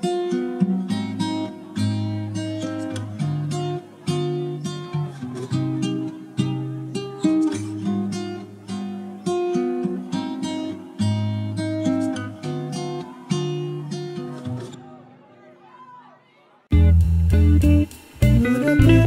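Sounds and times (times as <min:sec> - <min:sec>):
acoustic guitar playing: 0:00.0 - 0:15.1, 0:16.7 - 0:19.0.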